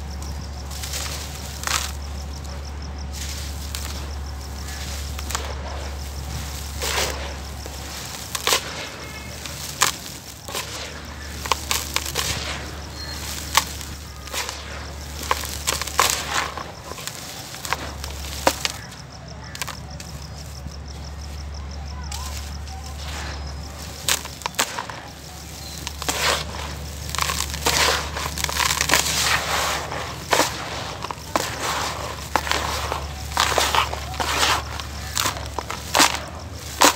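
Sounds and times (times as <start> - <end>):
dry dirt crunching by hand: 0.0 - 36.9
grit pouring with sifting hiss: 0.1 - 18.8, 22.2 - 36.9.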